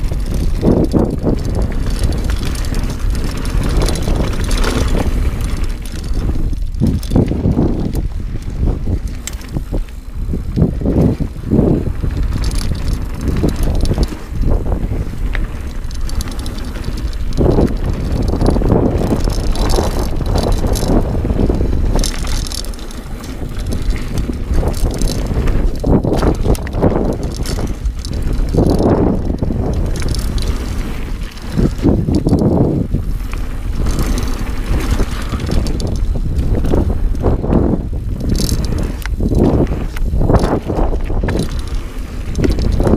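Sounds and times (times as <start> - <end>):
bike rattles and knocks: 0.0 - 42.9
bike tyres rumbling on dirt: 0.0 - 42.9
wind buffeting microphone: 0.0 - 42.9.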